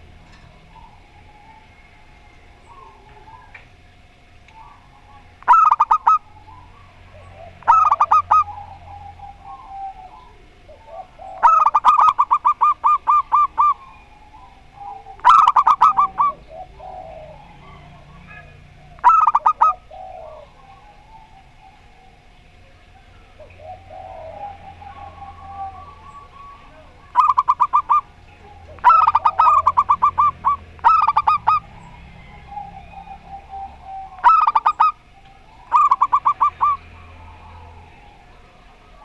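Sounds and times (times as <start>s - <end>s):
doves stuttering cooing: 0.0s - 39.0s.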